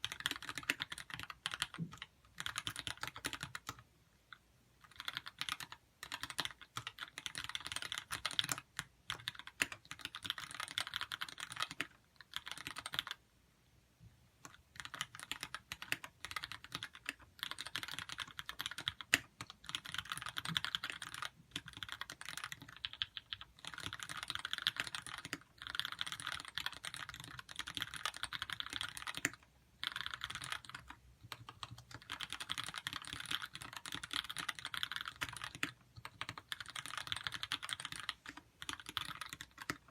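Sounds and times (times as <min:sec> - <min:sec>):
mechanical keyboard typing: 0:00.0 - 0:03.8, 0:04.8 - 0:13.2, 0:14.4 - 0:39.9.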